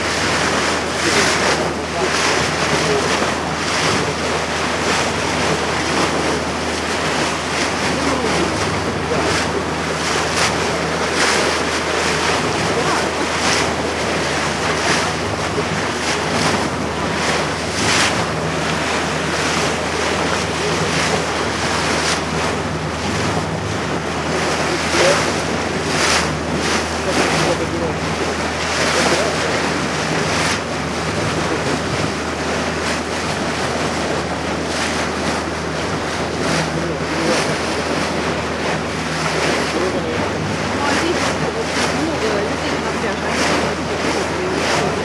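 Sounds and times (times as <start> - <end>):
boat engine hum: 0.0 - 45.0
water splashing along hull: 0.0 - 45.0.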